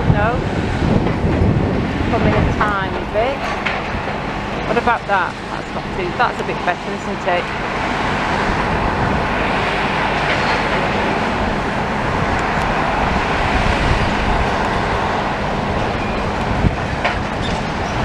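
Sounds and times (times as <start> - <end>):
demolition machinery: 0.1 - 18.0.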